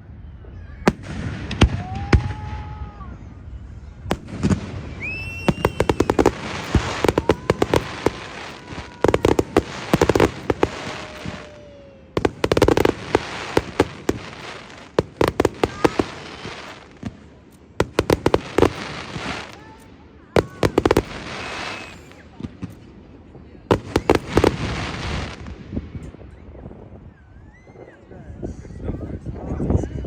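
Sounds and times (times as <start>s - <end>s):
fireworks gliding whistles: 0.0s - 22.9s, 23.7s - 29.0s
fireworks bangs and crackles: 0.0s - 27.1s.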